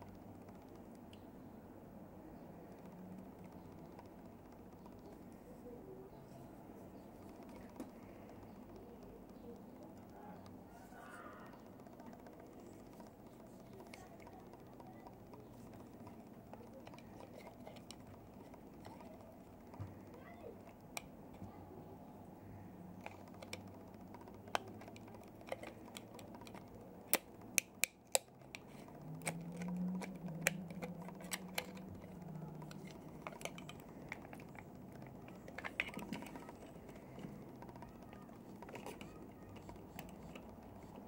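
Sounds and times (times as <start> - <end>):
small device clicks and taps: 0.0 - 1.3, 7.0 - 21.6, 22.9 - 41.0.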